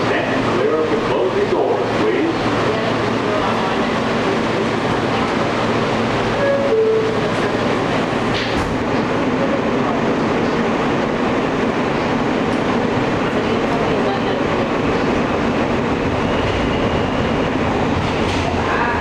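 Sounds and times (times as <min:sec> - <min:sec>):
subway wheels rumbling on rail: 0:00.0 - 0:19.0.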